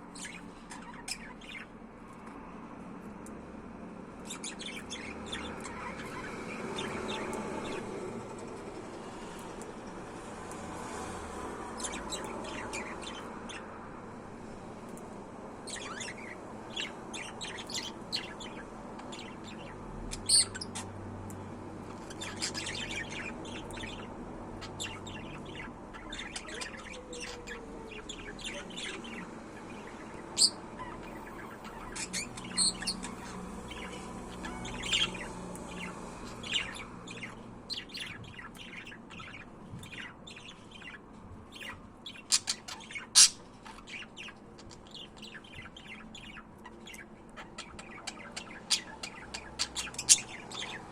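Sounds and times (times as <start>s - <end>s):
budgerigars chirping: 0.2s - 1.7s, 4.2s - 7.9s, 11.7s - 13.7s, 15.7s - 21.0s, 21.8s - 50.9s.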